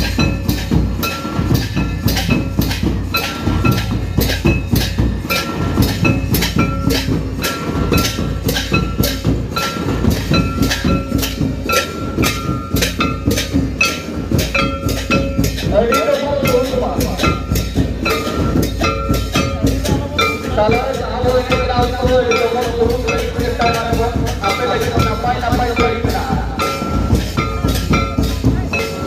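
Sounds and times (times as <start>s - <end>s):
hand drums playing: 0.0s - 29.0s.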